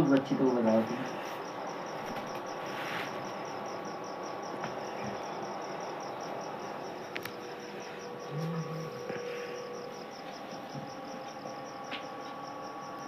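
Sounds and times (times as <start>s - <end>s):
background hiss: 0.0s - 13.0s
insect chirping: 0.0s - 13.0s.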